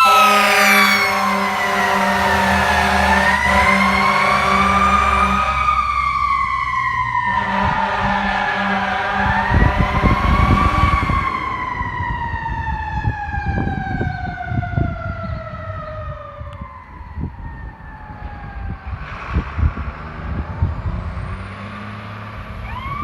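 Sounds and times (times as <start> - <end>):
fire engine siren wailing: 0.0 - 23.0
heavy vehicle rumble: 0.0 - 23.0.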